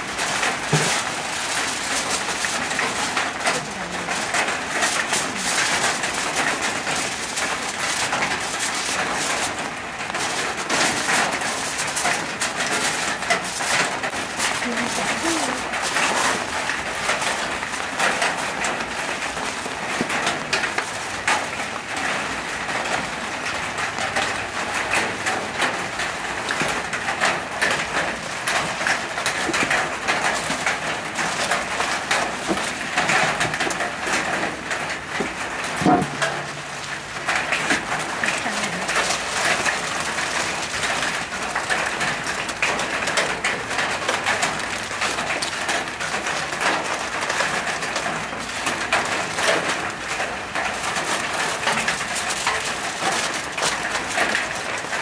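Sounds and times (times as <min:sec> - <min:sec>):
aluminium foil crinkling: 0:00.0 - 0:55.0.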